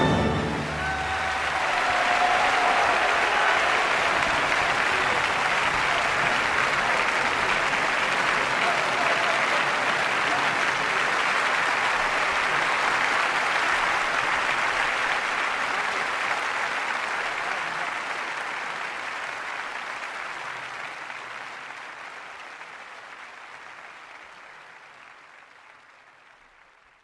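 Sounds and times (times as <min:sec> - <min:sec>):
crowd applauding: 0:00.0 - 0:27.0.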